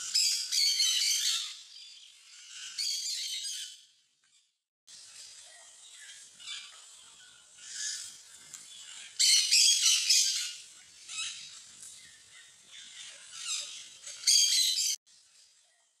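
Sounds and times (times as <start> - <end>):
small birds chirping and squawking: 0.0 - 16.0.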